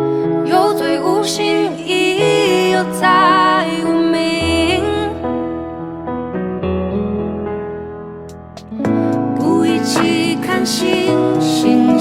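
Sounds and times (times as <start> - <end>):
slow pop ballad music: 0.0 - 12.0.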